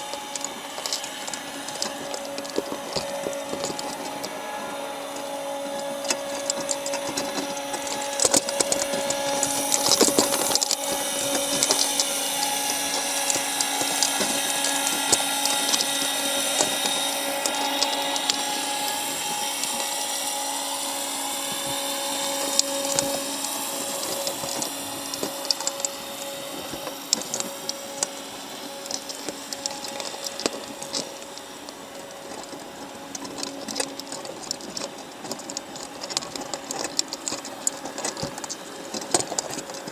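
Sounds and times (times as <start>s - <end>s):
underwater machine hum and whine: 0.0s - 39.9s.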